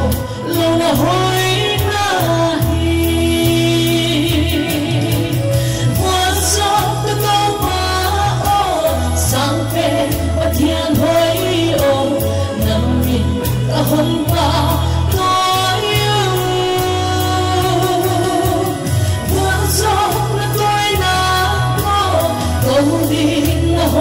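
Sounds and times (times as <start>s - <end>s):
bass line: 0.0s - 24.0s
person singing live: 0.0s - 24.0s.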